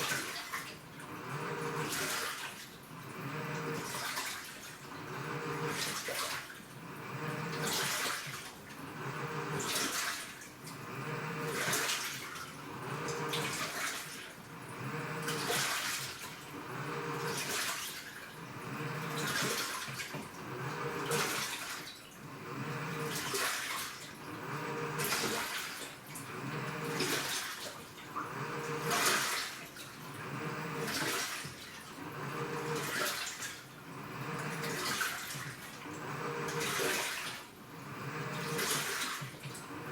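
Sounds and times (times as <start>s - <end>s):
washing machine motor hum: 0.0s - 39.9s
water sloshing in washing machine: 0.0s - 39.9s.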